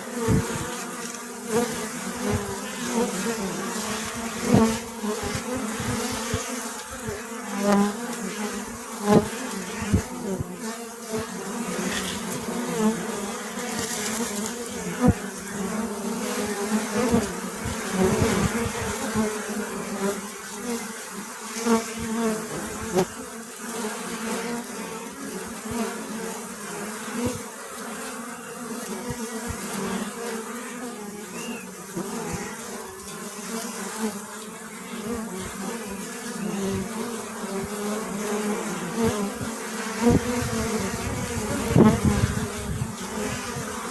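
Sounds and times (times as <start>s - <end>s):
bees buzzing: 0.0s - 43.9s.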